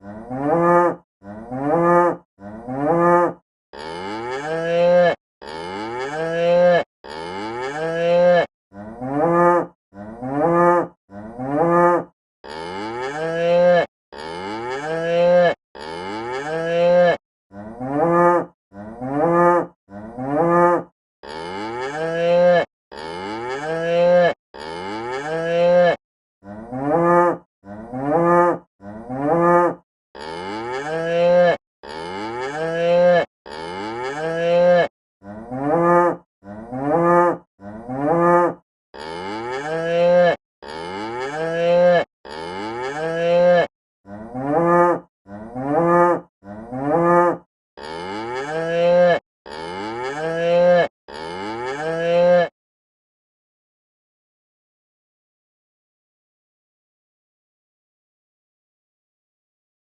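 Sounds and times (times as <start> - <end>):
cow mooing: 0.0 - 52.5.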